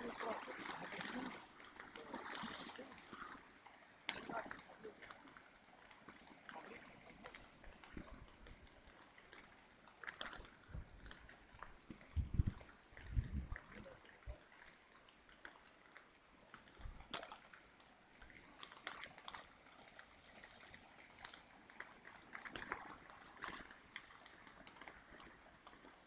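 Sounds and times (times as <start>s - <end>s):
faint ticks and crackles: 0.0s - 26.0s.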